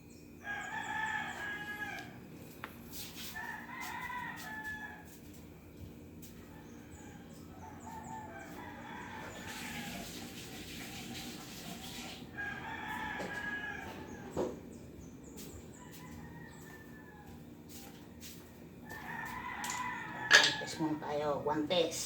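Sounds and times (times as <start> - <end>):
roosters crowing: 0.4 - 22.0.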